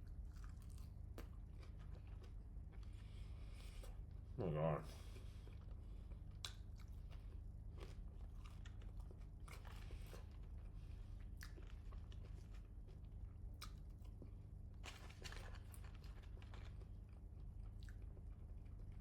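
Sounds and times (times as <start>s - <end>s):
person chewing crunchy food: 0.0s - 4.2s, 5.2s - 19.0s.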